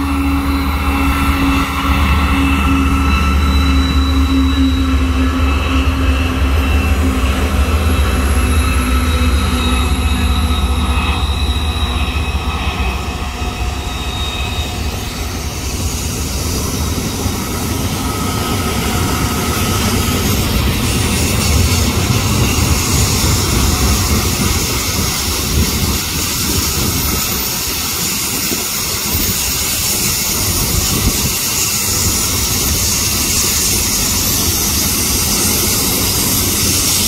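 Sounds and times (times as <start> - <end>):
diesel locomotive engines: 0.0 - 37.0
high-pitched wheel squeal: 0.0 - 37.0.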